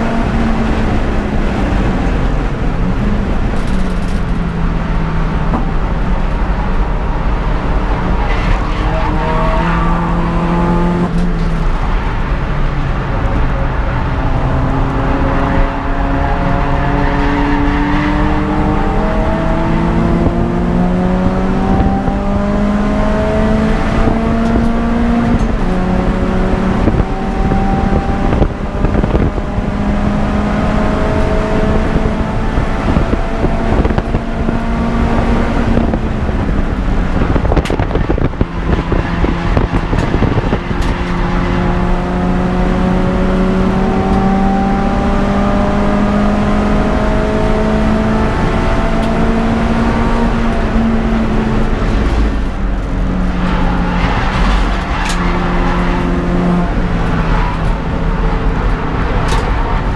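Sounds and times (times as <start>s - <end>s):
car engine revving hard: 0.0s - 11.8s, 14.1s - 59.9s.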